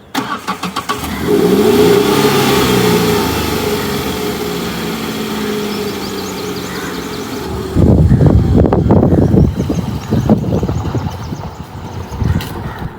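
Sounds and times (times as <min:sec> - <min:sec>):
car engine revving: 0:00.1 - 0:12.1.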